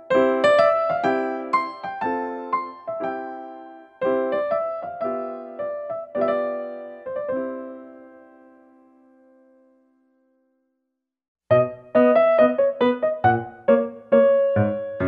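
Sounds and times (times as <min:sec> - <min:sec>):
slow piano music: 0:00.0 - 0:10.5, 0:11.5 - 0:15.0.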